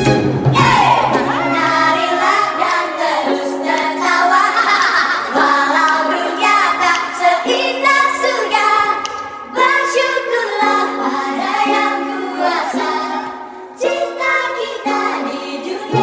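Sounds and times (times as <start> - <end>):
music with singing: 0.0 - 16.0.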